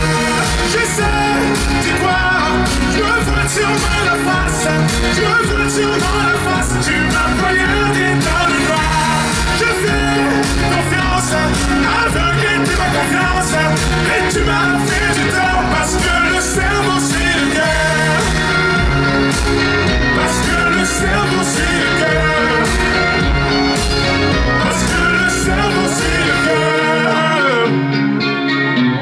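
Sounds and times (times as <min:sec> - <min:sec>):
man singing: 0:00.0 - 0:28.4
pop music over loudspeakers: 0:00.0 - 0:29.0.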